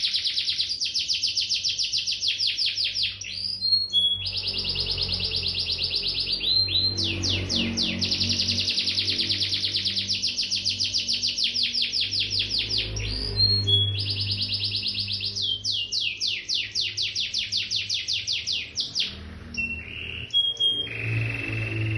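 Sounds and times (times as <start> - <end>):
canary singing trills: 0.0 - 21.9.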